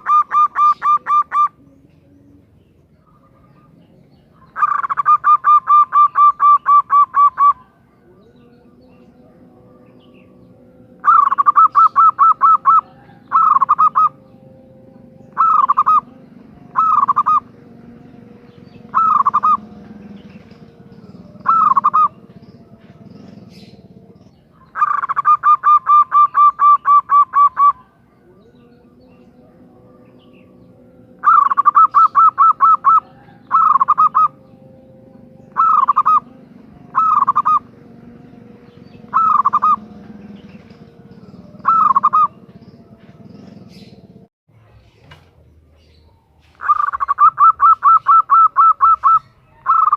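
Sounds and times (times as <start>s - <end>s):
dove trilling calls: 0.0s - 44.3s, 45.8s - 49.9s.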